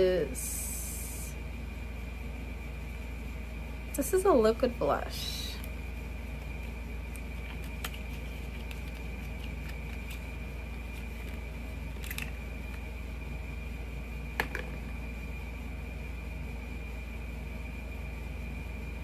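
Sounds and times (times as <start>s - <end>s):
background hum with high whine: 0.0s - 19.0s.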